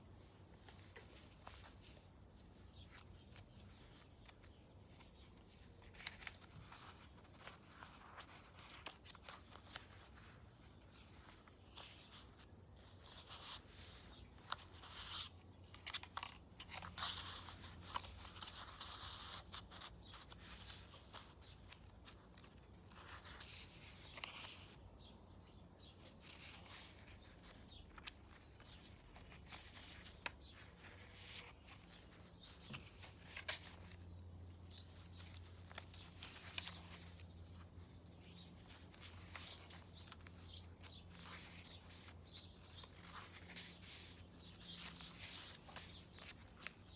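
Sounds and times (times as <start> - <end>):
paper pages rustling: 0.5 - 24.8, 26.0 - 46.9.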